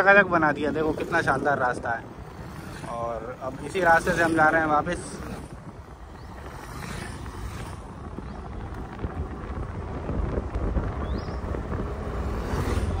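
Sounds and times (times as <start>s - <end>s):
road and vehicle noise: 0.0s - 13.0s
wind buffeting the microphone: 0.0s - 13.0s.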